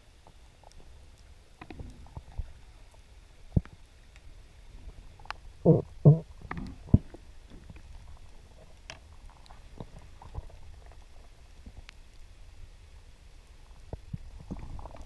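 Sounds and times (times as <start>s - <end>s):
faint clicks and ticks: 0.0s - 15.0s
muffled underwater rumble: 0.0s - 15.0s.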